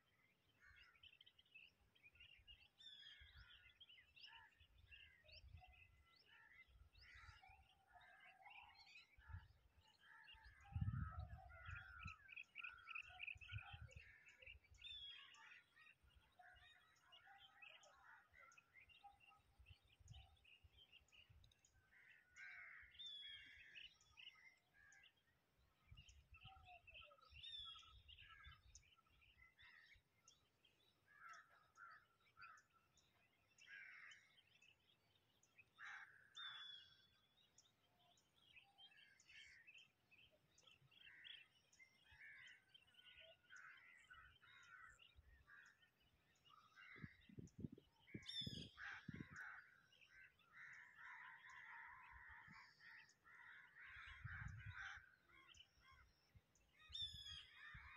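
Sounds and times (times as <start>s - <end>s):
birds chirping: 8.6s - 57.9s.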